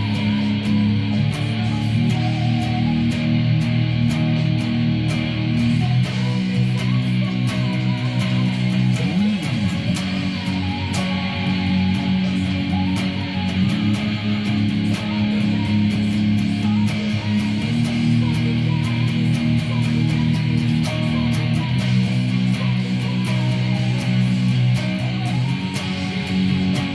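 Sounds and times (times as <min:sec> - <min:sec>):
bass guitar: 0:00.0 - 0:26.9
electric guitar: 0:00.0 - 0:26.9.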